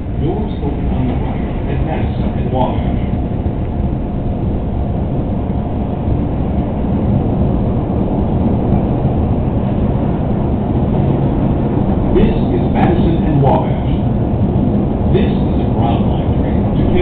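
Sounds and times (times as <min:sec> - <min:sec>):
train wheels and motors rumbling: 0:00.0 - 0:17.0.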